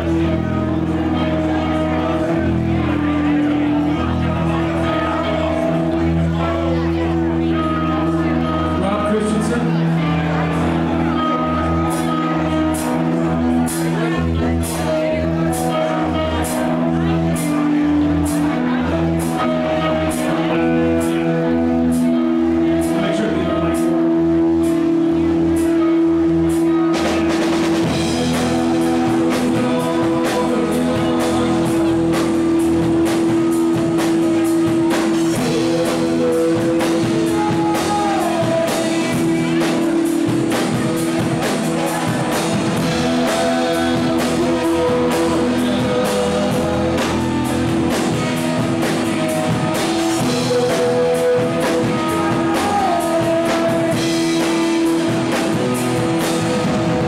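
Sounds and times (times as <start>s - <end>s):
bass line: 0.0s - 57.0s
electric guitars: 0.0s - 57.0s
drum kit beat: 10.5s - 57.0s.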